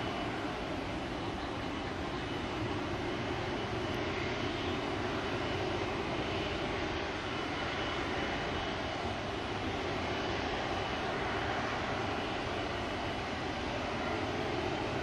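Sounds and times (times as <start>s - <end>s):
faint high whine: 0.0s - 15.0s
jet engines running: 0.0s - 15.0s.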